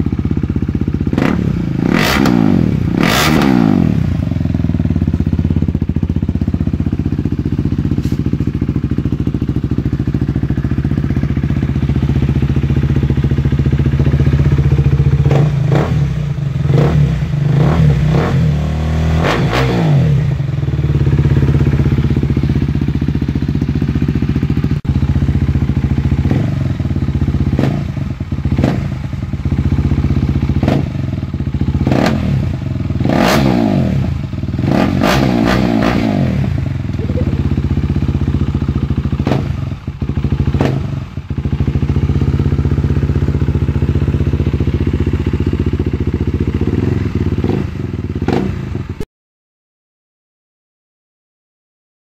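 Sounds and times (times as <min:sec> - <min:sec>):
motorcycle engine with open pipe: 0:00.0 - 0:49.0.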